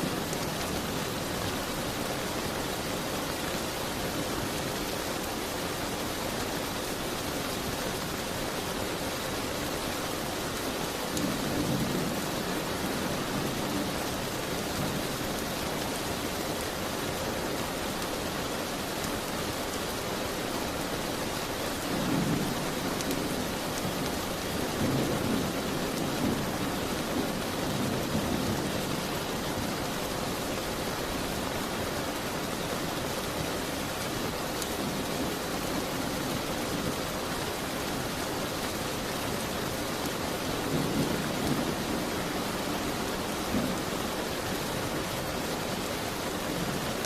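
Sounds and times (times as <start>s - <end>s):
rain falling: 0.0s - 47.0s.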